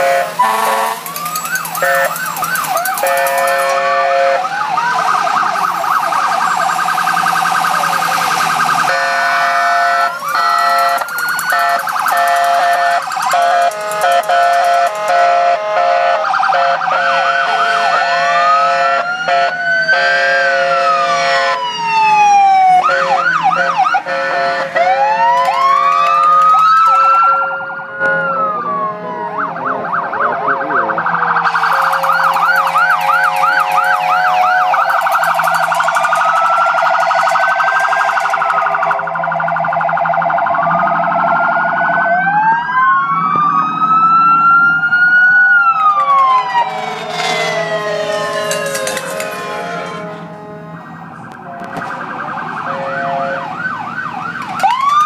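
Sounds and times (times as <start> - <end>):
fire truck sirens wailing: 0.0 - 55.0.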